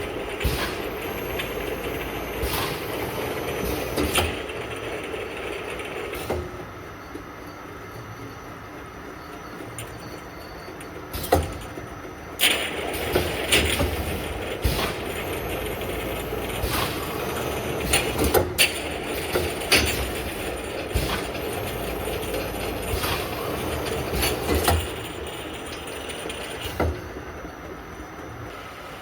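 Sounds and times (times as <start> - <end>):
packing machine clattering: 0.0 - 27.9.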